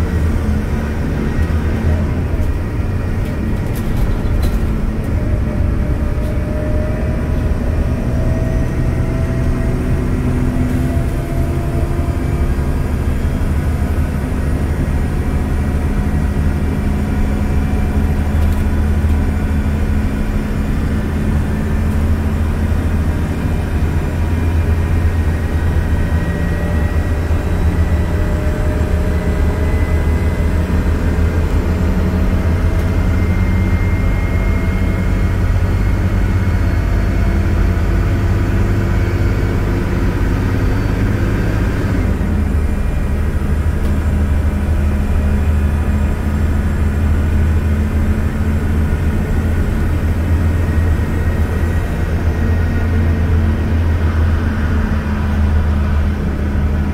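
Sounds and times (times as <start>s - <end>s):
bus engine rumble: 0.0s - 56.9s.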